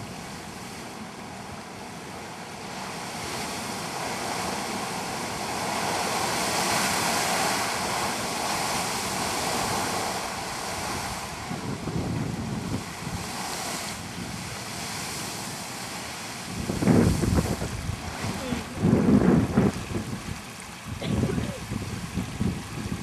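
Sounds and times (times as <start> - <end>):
geyser rushing hiss of water: 0.0 - 23.0
wind buffeting microphone: 3.0 - 23.0.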